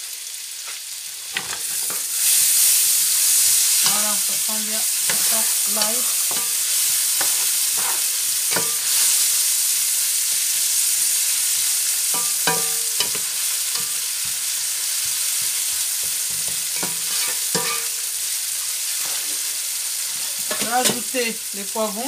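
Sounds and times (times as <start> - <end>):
onions sizzling in a pan: 0.0 - 22.0.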